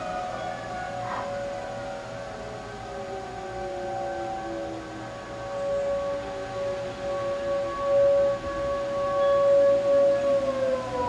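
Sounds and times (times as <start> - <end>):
siren-like wail: 0.0 - 11.0.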